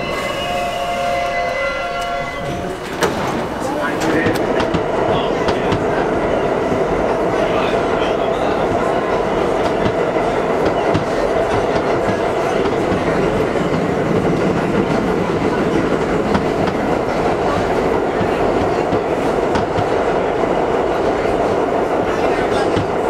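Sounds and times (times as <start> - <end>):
subway car wheels rumbling on rail: 0.0 - 23.0.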